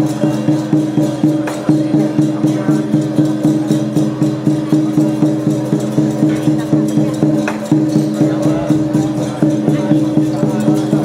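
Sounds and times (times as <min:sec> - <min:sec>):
drum gongs and cymbals beating: 0:00.0 - 0:11.0.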